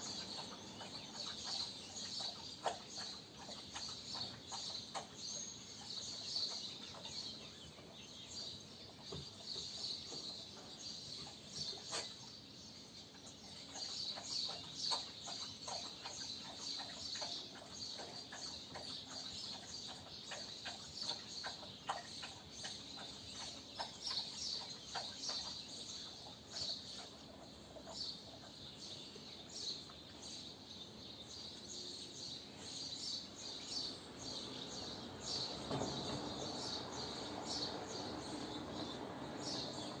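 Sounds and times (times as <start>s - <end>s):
swallows twittering: 0.0s - 40.0s.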